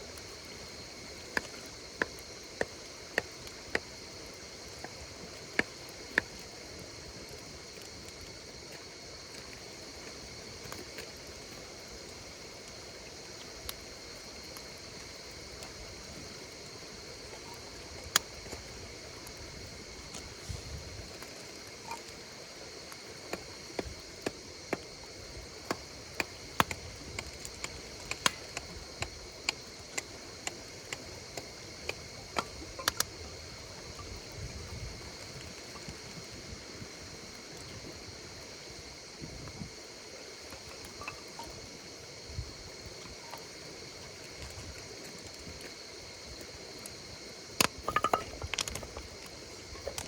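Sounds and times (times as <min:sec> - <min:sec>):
campfire crackling and popping: 0:00.0 - 0:50.0
insects chirping: 0:00.0 - 0:50.0.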